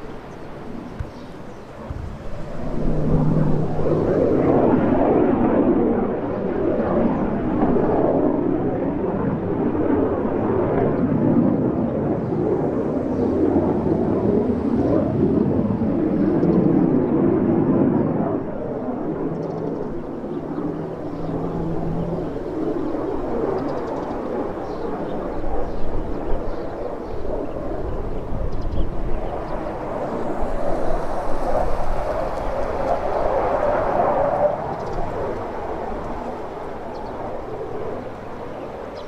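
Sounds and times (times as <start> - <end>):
fighter jet engine rumble: 0.0 - 39.0.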